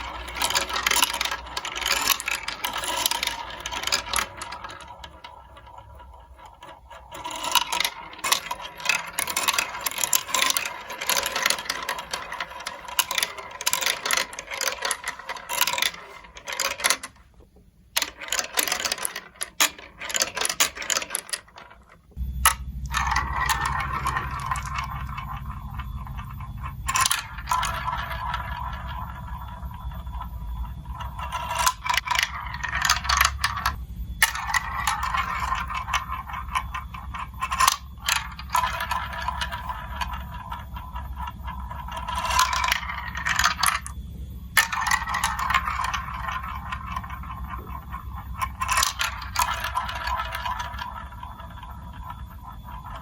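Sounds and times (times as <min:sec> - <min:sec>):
low steady hum: 0:00.0 - 0:53.0
marbles clattering down a track: 0:00.0 - 0:53.0.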